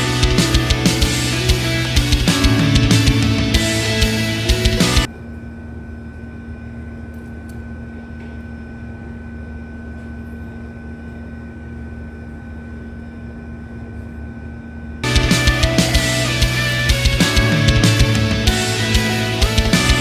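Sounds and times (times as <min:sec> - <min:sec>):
mechanical hum with low rumble: 0:00.0 - 0:20.0
thin high whine: 0:00.0 - 0:20.0.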